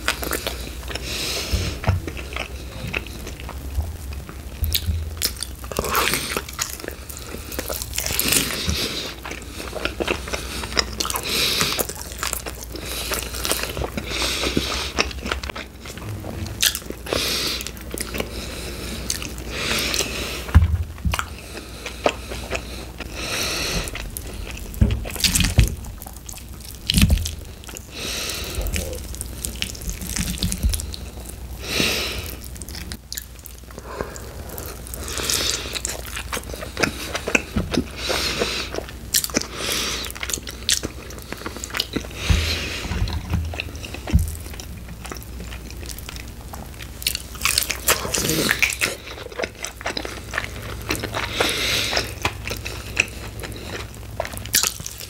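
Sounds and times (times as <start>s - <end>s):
close-miked chewing and mouth smacks: 1.7s - 16.0s, 19.0s - 20.1s, 21.0s - 31.4s, 32.2s - 42.4s, 43.1s - 55.0s.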